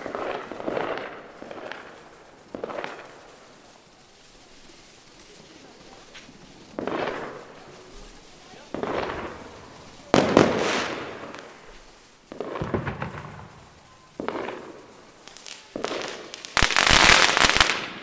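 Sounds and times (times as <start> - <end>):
fireworks bangs: 0.0 - 18.0
fireworks crackling barrage: 0.0 - 18.0.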